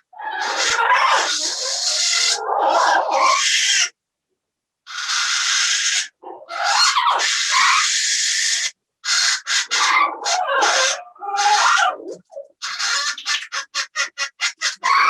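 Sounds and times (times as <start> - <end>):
parrots squawking and screeching: 0.0 - 4.0, 4.9 - 15.0.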